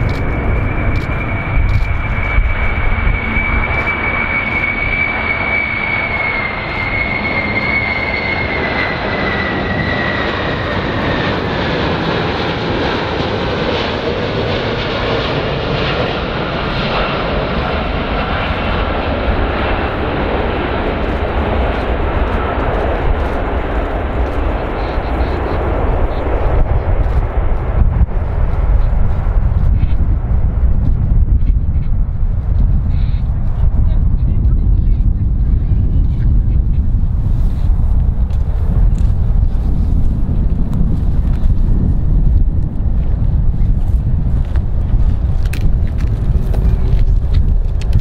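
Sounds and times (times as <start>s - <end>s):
high engine whine: 0.0s - 48.0s
jet engine roar: 0.0s - 48.0s.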